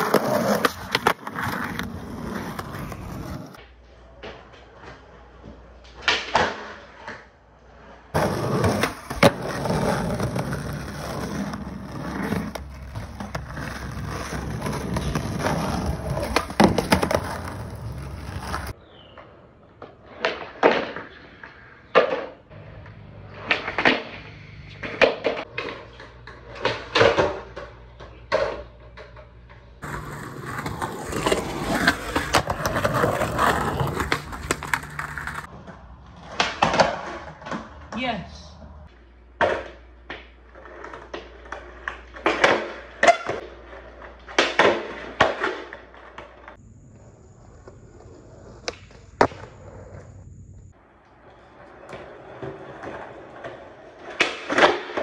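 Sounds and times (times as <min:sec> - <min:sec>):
skateboard wheels rolling on concrete: 0:00.0 - 0:55.0
skateboard pops and clacks: 0:02.5 - 0:07.4, 0:08.2 - 0:18.8, 0:19.8 - 0:37.8, 0:39.4 - 0:46.6, 0:48.6 - 0:49.6, 0:51.8 - 0:55.0.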